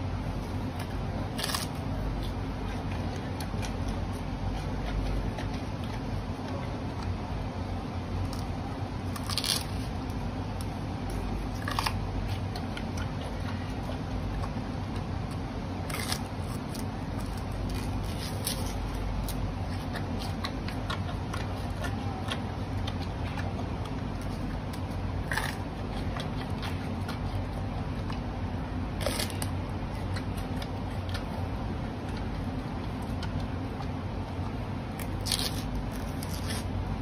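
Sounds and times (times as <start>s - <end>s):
panda chewing carrots: 0.0s - 37.0s
steady low hum: 0.0s - 37.0s.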